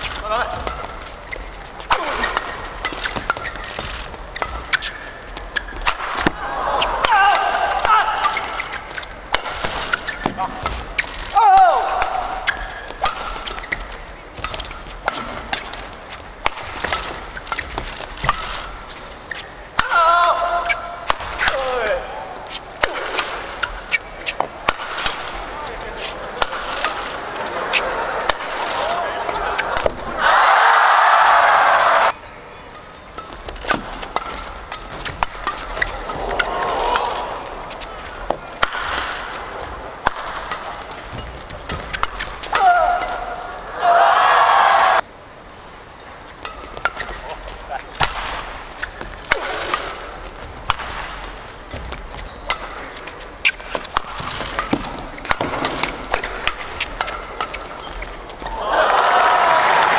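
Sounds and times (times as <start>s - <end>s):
shoes squeaking on court: 0.0s - 7.0s, 8.2s - 11.4s, 12.1s - 19.8s, 20.6s - 30.0s, 32.3s - 43.6s, 46.2s - 58.6s
rackets striking shuttlecock: 0.0s - 30.2s, 32.7s - 43.5s, 46.4s - 58.6s
crowd noise: 0.0s - 59.9s.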